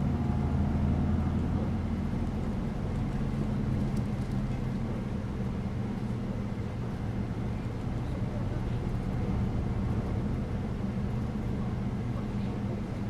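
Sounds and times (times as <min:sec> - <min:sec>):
bus engine humming: 0:00.0 - 0:13.0
road and tyre noise: 0:00.0 - 0:13.0.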